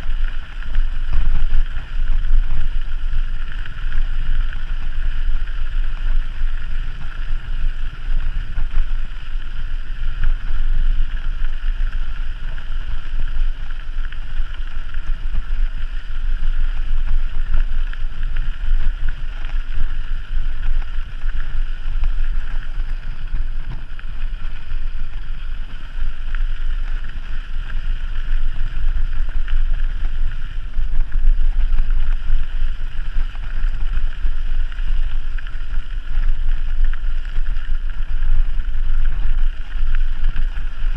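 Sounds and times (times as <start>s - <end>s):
wind buffeting microphone: 0.0s - 33.6s.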